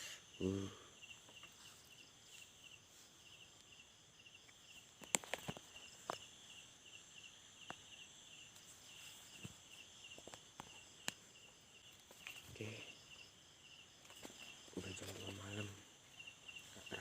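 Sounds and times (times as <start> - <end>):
night insects chirping: 0.0 - 17.0.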